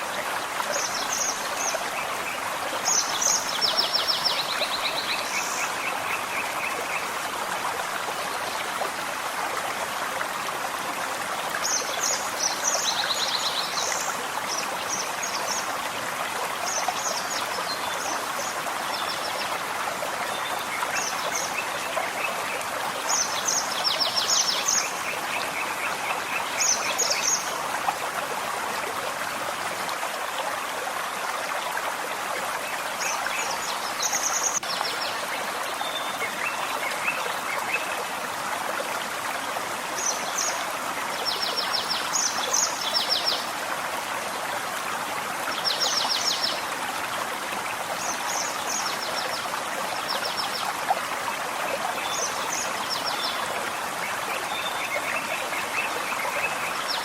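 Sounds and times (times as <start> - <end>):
stream rushing water: 0.0 - 57.0.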